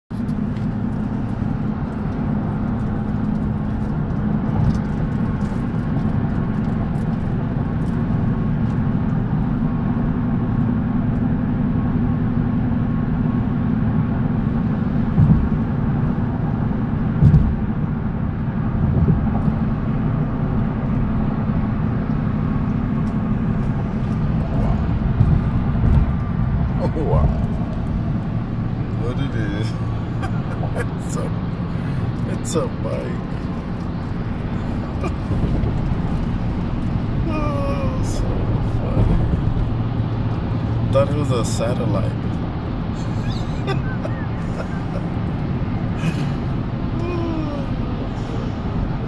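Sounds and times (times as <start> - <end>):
road and engine noise in car: 0.1 - 49.0.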